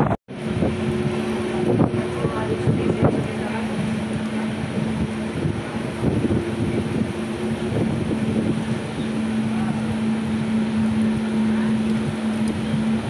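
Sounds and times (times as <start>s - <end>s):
steady low hum: 0.3s - 13.0s
train wheel and air rush: 0.3s - 13.0s.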